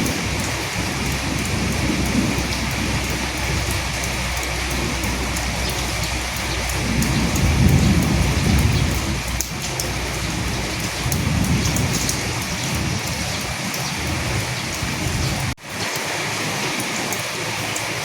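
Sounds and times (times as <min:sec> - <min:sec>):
distant thunder rumble: 0:00.0 - 0:15.6
raindrops ticking: 0:00.0 - 0:18.0
steady rain: 0:00.0 - 0:18.0.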